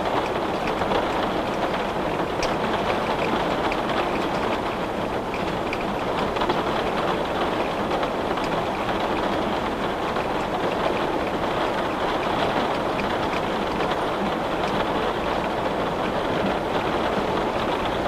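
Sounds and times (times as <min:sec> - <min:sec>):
rain falling: 0:00.0 - 0:18.0
raindrops ticking on window: 0:00.0 - 0:18.0.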